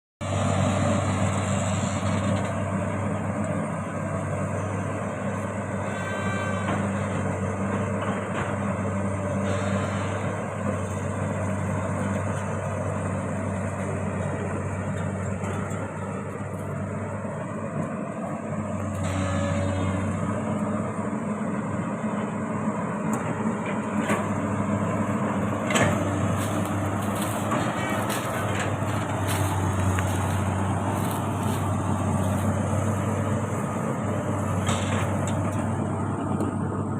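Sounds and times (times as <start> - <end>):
excavator diesel engine running: 0.2 - 36.9.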